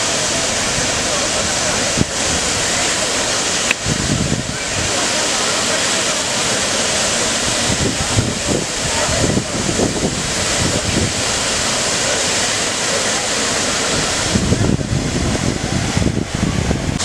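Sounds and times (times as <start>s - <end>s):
wind buffeting microphone: 0.0s - 5.2s, 6.5s - 12.0s, 13.6s - 17.0s
waterfall rushing: 0.0s - 17.0s.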